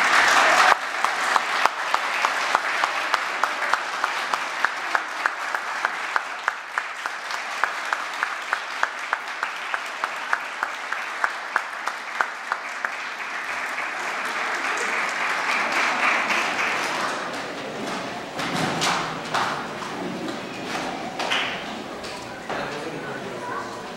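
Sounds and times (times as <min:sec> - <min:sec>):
audience applauding: 0:00.0 - 0:23.9.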